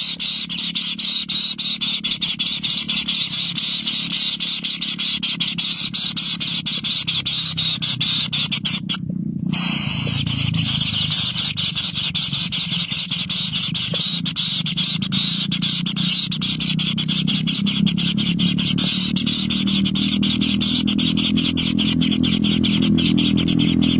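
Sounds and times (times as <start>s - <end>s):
nestling birds squealing: 0.0s - 23.9s.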